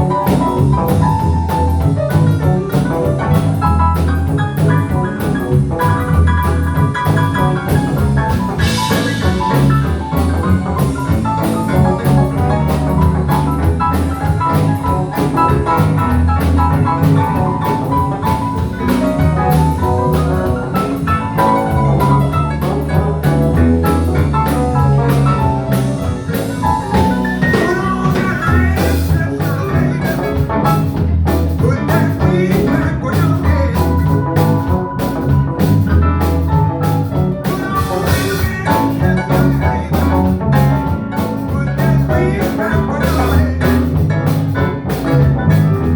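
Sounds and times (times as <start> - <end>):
live blues band playing: 0.0 - 45.9.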